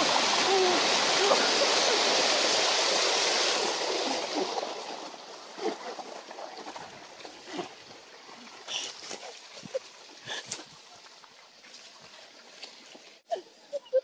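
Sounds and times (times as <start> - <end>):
water gushing onto grass: 0.0 - 13.3.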